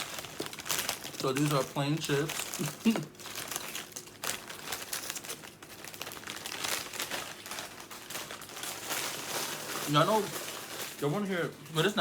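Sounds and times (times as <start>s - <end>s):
potato chip bag crinkling: 0.0s - 12.0s.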